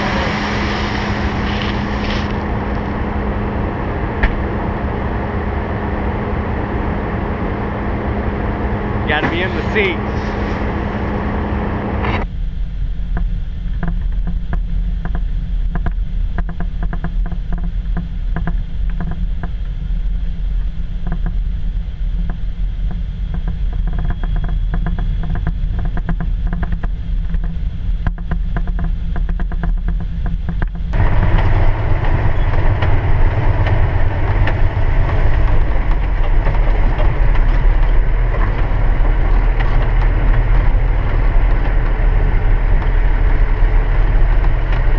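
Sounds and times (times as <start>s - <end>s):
harvester engine rumbling: 0.0s - 15.0s, 17.4s - 44.9s.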